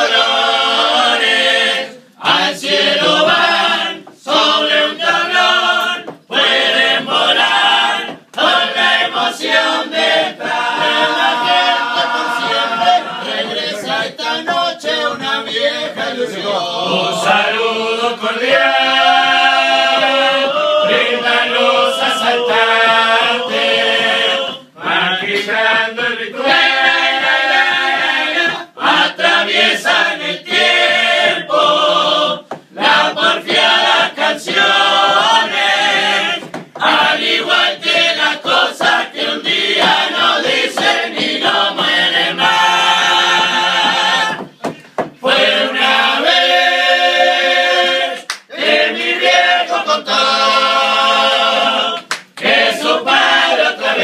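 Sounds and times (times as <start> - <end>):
chorus singing a cappella: 0.0 - 54.0.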